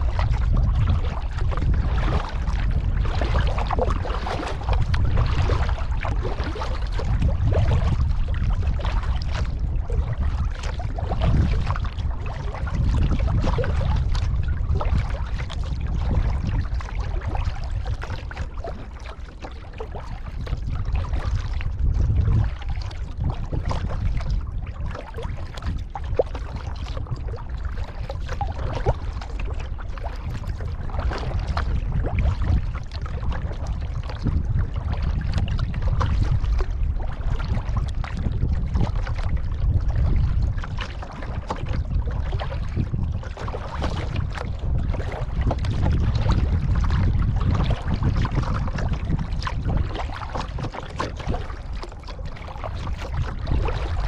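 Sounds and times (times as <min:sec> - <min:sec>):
paddle strokes through water: 0:00.0 - 0:54.0
steady low rumble: 0:00.0 - 0:54.0.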